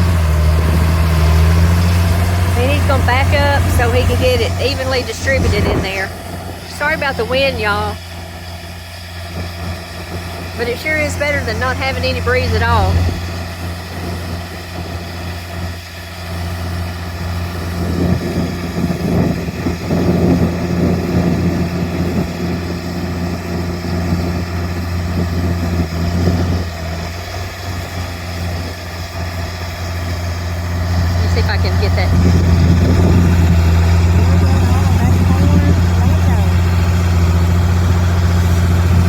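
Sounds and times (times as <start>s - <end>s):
wind buffeting microphone: 0.0s - 11.4s, 12.4s - 39.0s
tractor engine running: 0.0s - 39.0s.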